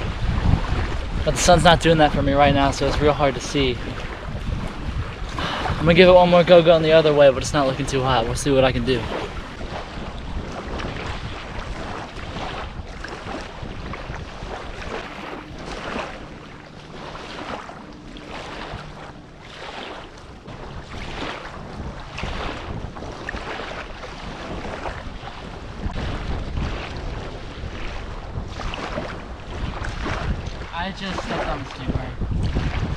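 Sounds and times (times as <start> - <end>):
water sloshing and splashing: 0.0 - 32.9
wind buffeting microphone: 0.0 - 32.9.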